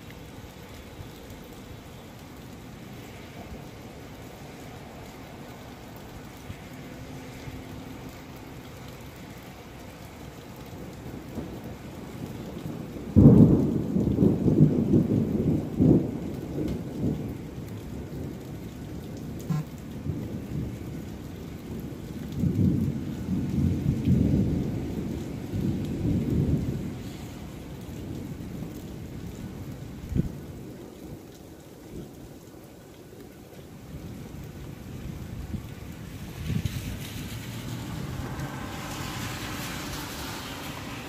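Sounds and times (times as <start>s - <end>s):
thunder rumbling: 0.0s - 31.2s, 33.8s - 41.0s
steady rain: 0.0s - 41.0s.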